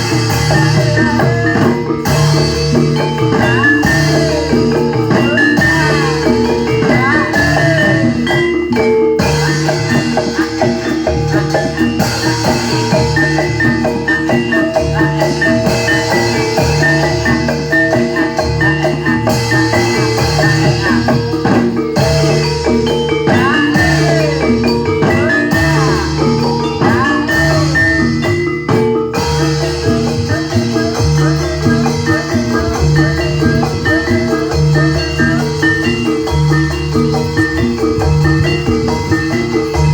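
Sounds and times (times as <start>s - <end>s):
drums: 0.0s - 39.9s
metallophones ringing: 0.0s - 39.9s.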